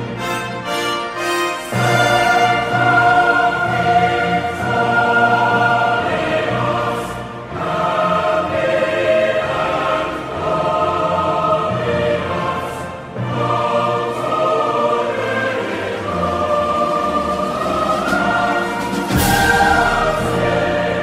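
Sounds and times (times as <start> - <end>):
choir singing held chords: 0.0 - 21.0.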